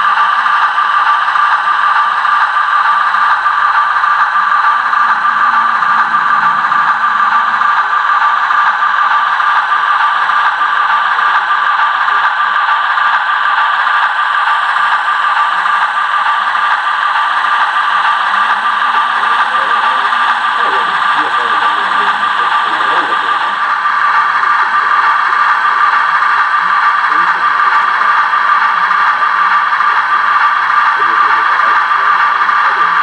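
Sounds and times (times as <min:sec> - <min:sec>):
model train motor whining: 0:00.0 - 0:33.0.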